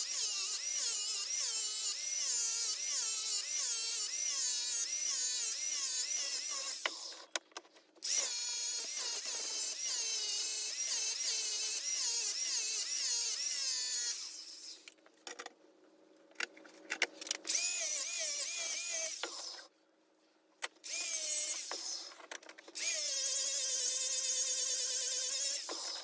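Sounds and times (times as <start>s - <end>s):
small electric motors whining: 0.0s - 7.3s, 8.0s - 14.9s, 17.5s - 19.7s, 20.8s - 22.2s, 22.8s - 26.0s.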